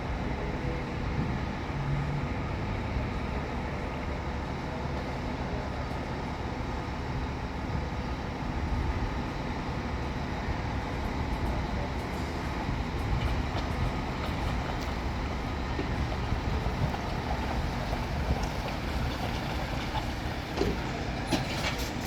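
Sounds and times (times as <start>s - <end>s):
coach engine and road rumble: 0.0s - 22.0s.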